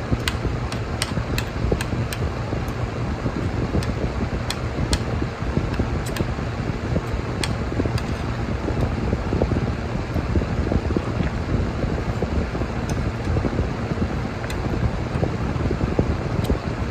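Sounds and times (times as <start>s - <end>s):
background hum: 0.0s - 16.9s.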